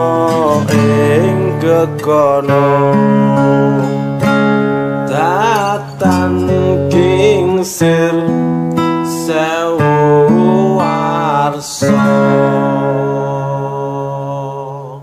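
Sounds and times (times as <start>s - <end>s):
acoustic guitar chords: 0.0s - 15.0s
man singing: 0.0s - 15.0s.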